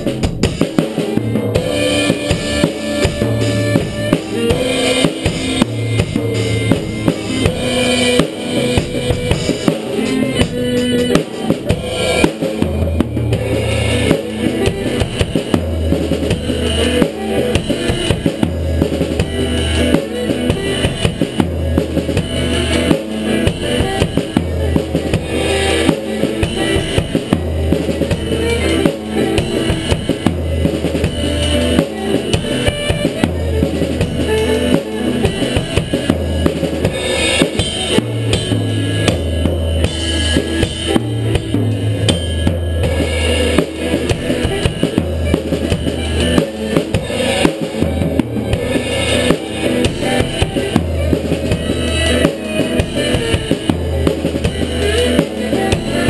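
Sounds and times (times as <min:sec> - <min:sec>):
drum kit funk groove: 0:00.0 - 0:56.0
funk backing track: 0:00.0 - 0:56.0.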